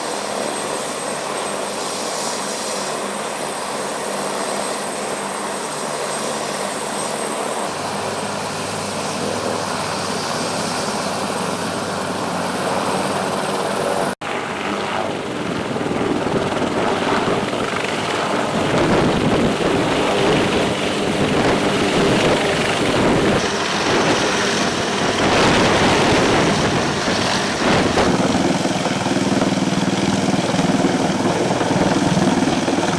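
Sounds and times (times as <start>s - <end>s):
aircraft engine and rotor noise: 0.0s - 32.9s.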